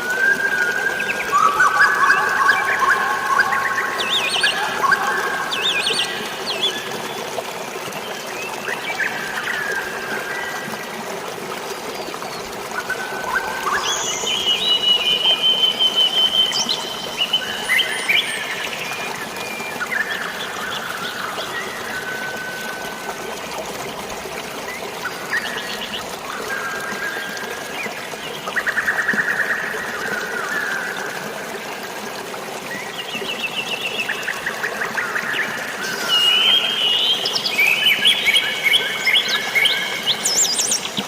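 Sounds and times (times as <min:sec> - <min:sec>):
flowing water rushing: 0:00.0 - 0:41.0.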